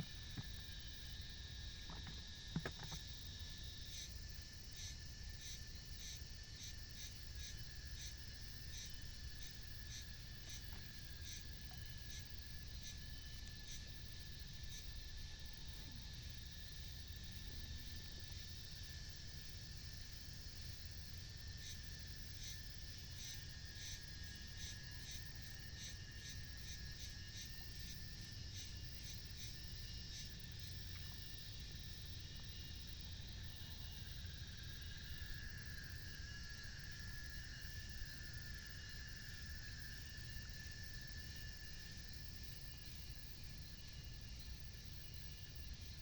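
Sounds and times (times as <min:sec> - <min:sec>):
rhythmic high insect chirp: 0:00.0 - 0:46.0
steady high insect trill: 0:00.0 - 0:46.0.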